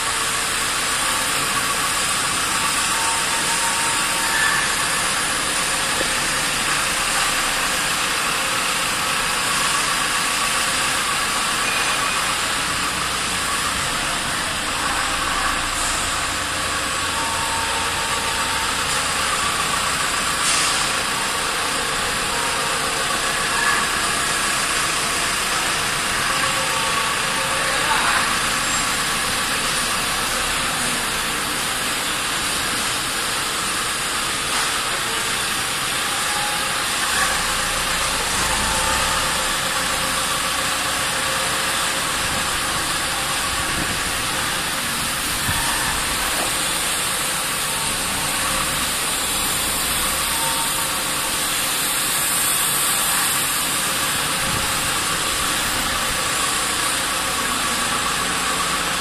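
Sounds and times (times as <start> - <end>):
machinery hum: 0.0 - 59.0.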